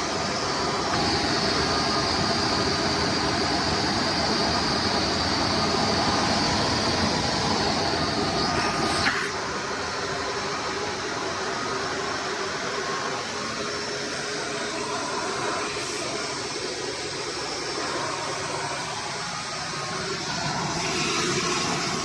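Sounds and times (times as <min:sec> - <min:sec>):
high whine: 0:00.0 - 0:22.0
vacuum cleaner motor running: 0:00.0 - 0:22.0.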